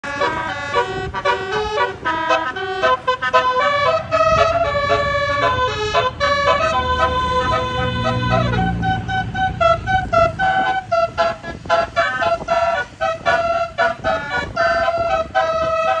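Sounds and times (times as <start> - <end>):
musical air horn melody: 0.0 - 16.0.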